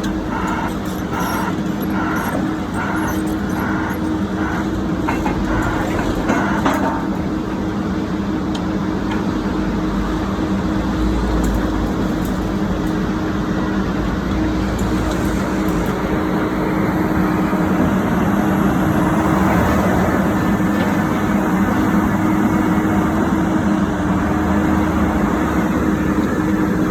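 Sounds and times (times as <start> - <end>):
heavy diesel engine humming: 0.0 - 26.9.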